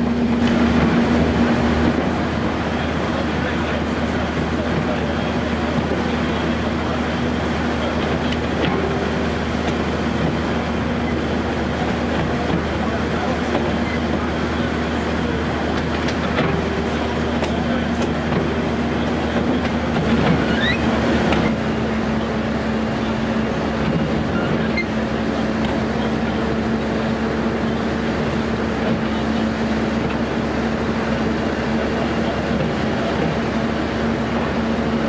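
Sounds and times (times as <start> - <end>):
diesel engine droning: 0.0 - 35.0
train rolling on track: 0.0 - 35.0.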